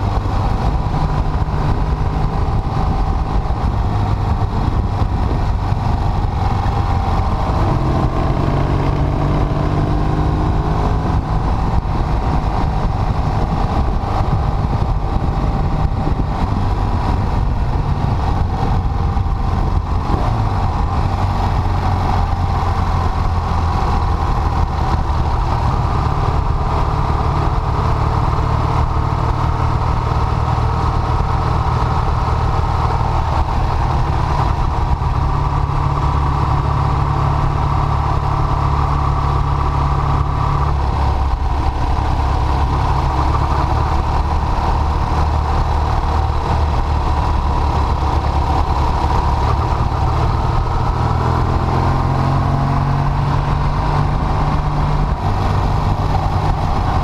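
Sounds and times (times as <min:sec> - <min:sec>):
motorcycle engine running: 0:00.0 - 0:57.0
rush of noise: 0:00.0 - 0:57.0.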